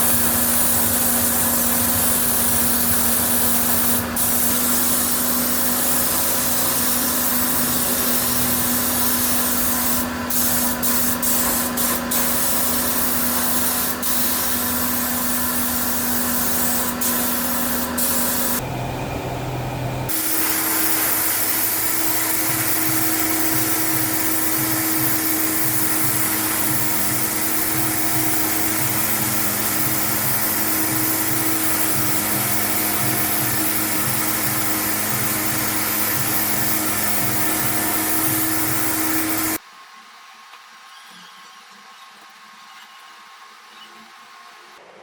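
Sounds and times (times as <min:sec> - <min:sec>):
air tool hissing: 0:00.0 - 0:18.6, 0:20.1 - 0:39.6.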